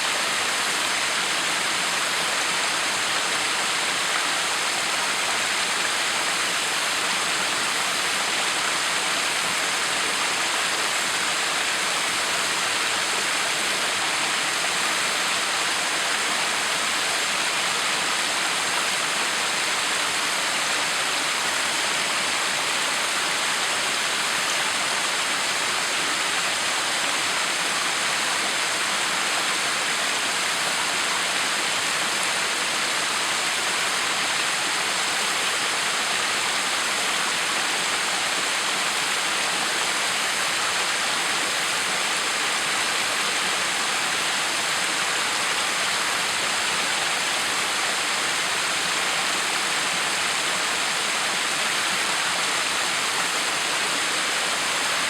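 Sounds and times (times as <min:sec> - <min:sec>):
waterfall rushing and splashing: 0:00.0 - 0:55.0.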